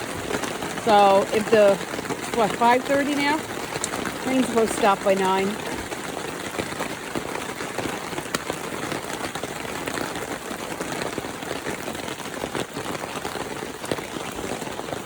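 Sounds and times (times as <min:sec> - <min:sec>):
heavy rain falling: 0:00.0 - 0:15.0
raindrop ticks: 0:00.0 - 0:15.0.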